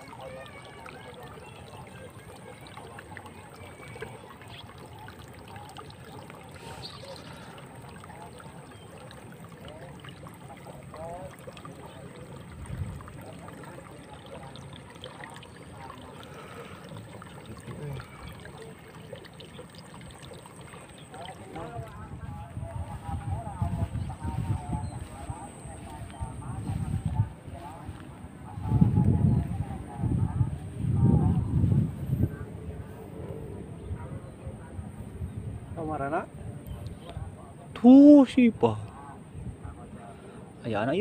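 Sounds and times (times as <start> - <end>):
water trickling and sloshing: 0.0 - 41.0.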